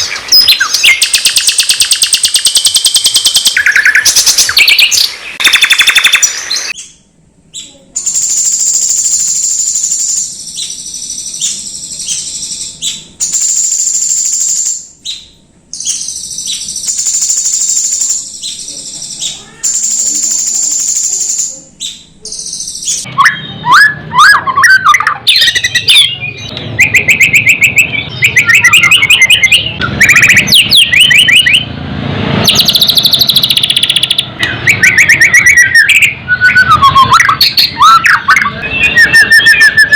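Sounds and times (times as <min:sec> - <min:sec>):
songbird trills and chirping: 0:00.0 - 0:31.6, 0:32.5 - 0:39.9.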